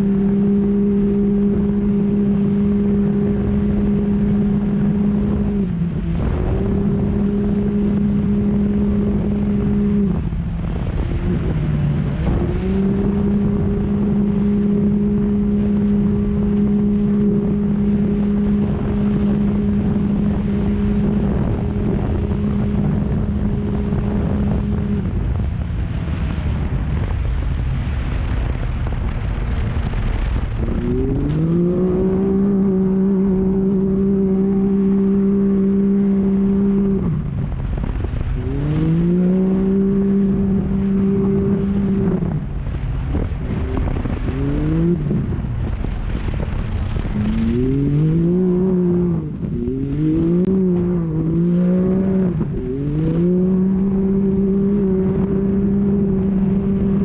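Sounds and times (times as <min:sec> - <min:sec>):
race vehicle engine at high revs: 0:00.0 - 0:57.0
rumbling wind and terrain noise: 0:00.0 - 0:57.0.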